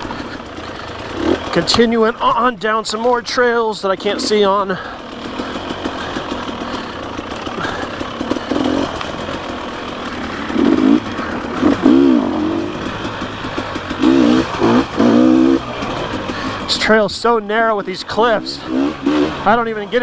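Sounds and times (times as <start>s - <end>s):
dirt bike engine revving: 0.0s - 20.0s
steady rushing noise: 0.0s - 20.0s.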